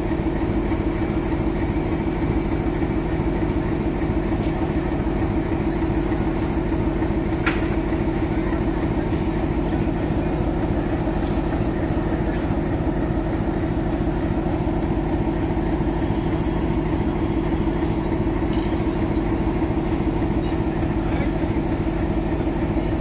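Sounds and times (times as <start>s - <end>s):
diesel locomotive engine running: 0.0s - 23.0s.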